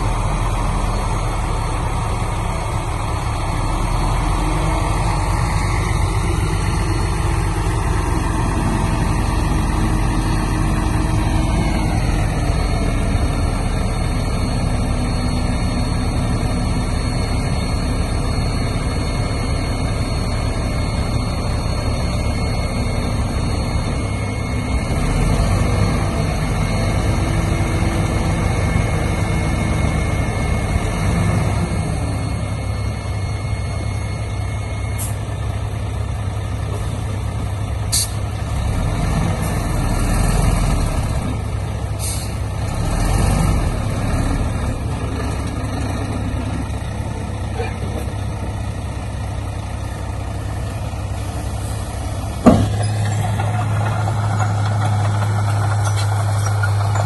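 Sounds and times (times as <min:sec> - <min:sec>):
heavy machinery engine rumble: 0:00.0 - 0:57.0.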